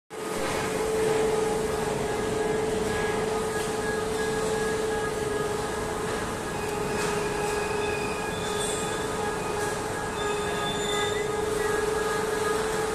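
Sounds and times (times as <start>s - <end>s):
mid-pitched machine drone: 0.1s - 12.9s
high machine whines: 0.2s - 12.9s
rolling mill machinery rumble: 0.2s - 12.9s.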